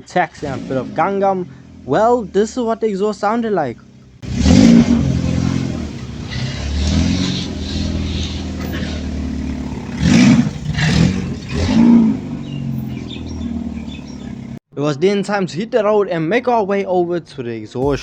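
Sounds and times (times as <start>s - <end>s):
car engine idling: 0.0s - 14.6s
engine throttle blips: 0.0s - 14.6s.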